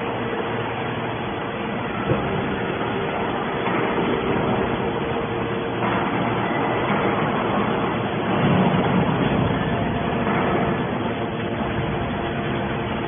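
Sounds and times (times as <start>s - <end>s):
industrial machinery running: 0.0s - 13.0s.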